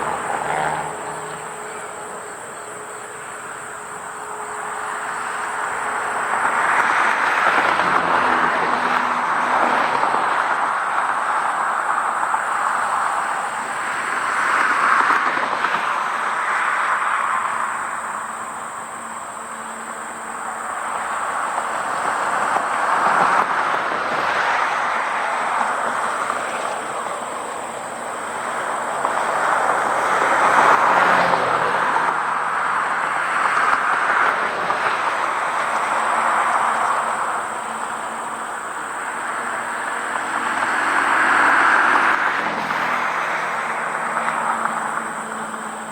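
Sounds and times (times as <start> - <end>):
vehicle passing on highway: 0.0 - 45.9.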